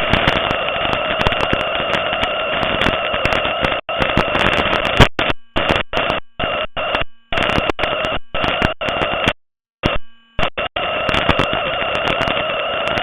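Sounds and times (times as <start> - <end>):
shortwave radio static hiss: 0.0 - 13.0.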